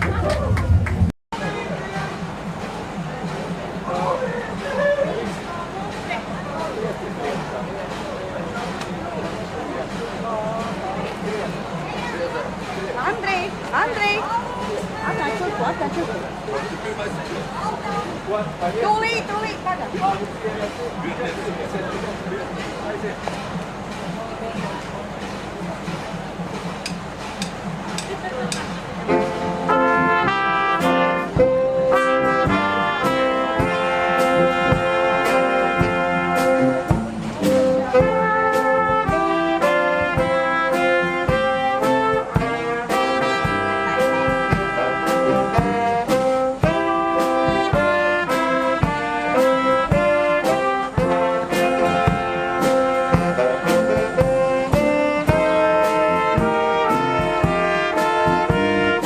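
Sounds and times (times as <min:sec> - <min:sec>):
brass band music: 0:00.0 - 0:59.0.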